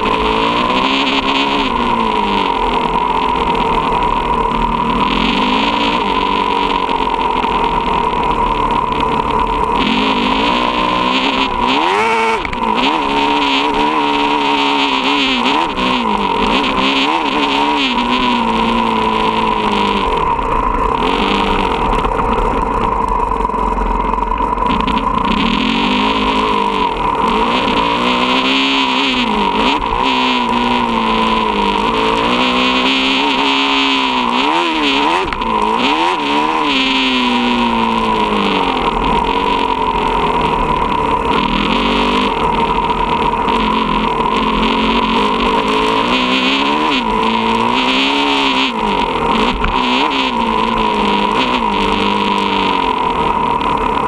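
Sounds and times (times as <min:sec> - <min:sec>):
dirt bike engine revving: 0:00.0 - 0:54.0
steady high whine: 0:00.0 - 0:54.0.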